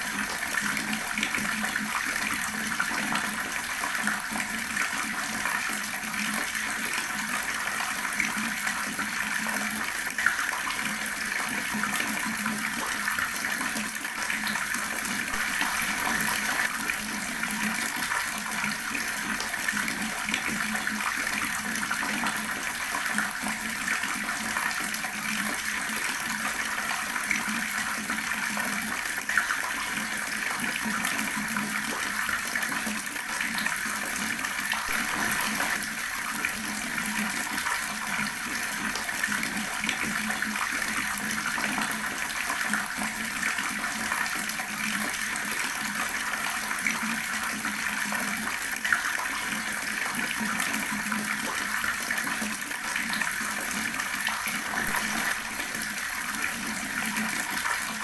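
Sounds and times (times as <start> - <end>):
water running from tap: 0.0 - 58.0.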